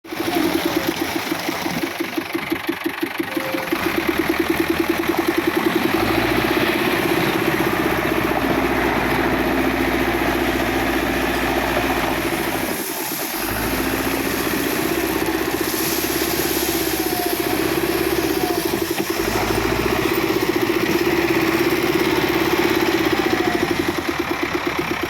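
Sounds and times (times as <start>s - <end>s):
diesel engine running: 0.1s - 25.0s.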